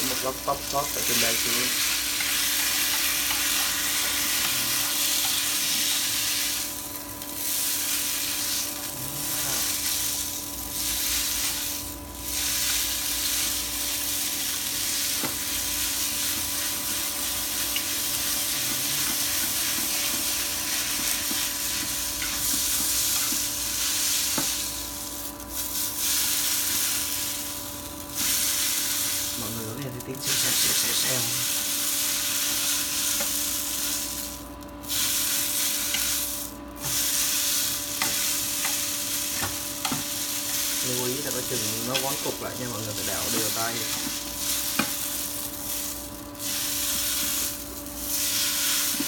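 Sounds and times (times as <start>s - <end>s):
noodles sizzling in hot oil: 0.0s - 49.0s.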